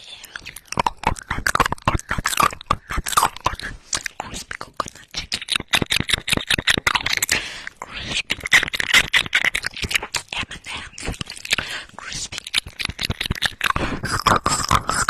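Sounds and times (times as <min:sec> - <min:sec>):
wet mouth clicks and crackles: 0:00.0 - 0:15.0.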